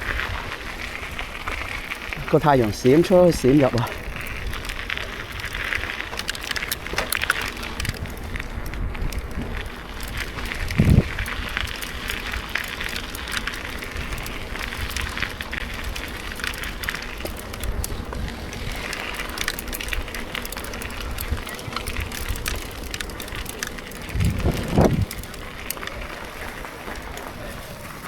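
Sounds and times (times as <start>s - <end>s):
bike tyres crunching on rough ground: 0.0s - 28.0s
wind rumbling on microphone: 0.0s - 28.0s.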